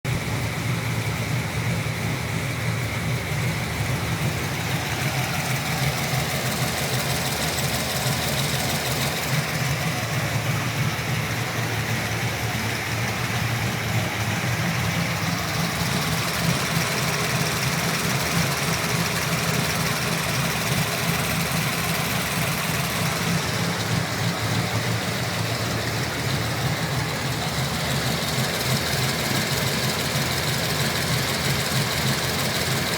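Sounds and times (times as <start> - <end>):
car engine idling: 0.0 - 32.9
engine ticking: 0.0 - 32.9.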